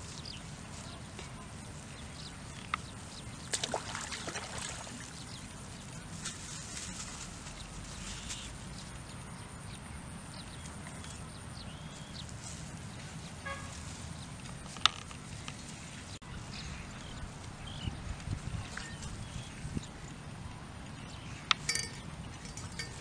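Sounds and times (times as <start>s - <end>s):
low wind-like rumble: 0.0s - 23.0s.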